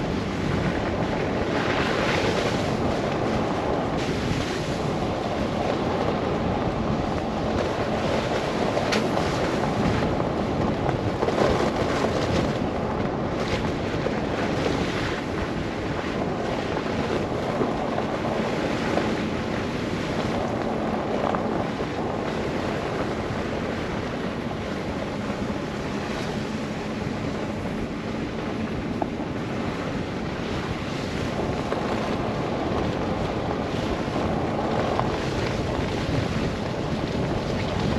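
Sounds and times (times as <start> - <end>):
car road noise: 0.0 - 37.9
wind rushing: 0.0 - 37.9.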